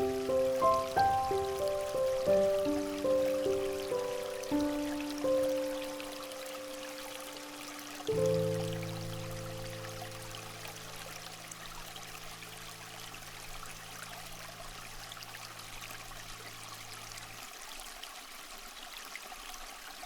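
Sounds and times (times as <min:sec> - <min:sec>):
trickling water: 0:00.0 - 0:20.0.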